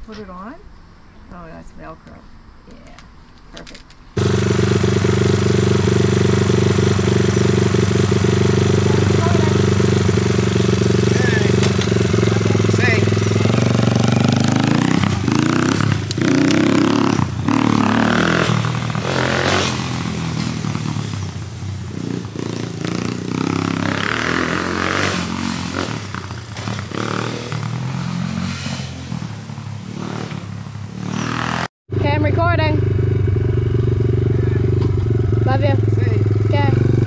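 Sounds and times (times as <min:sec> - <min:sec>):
dirt bike engine revving: 0:04.2 - 0:37.0.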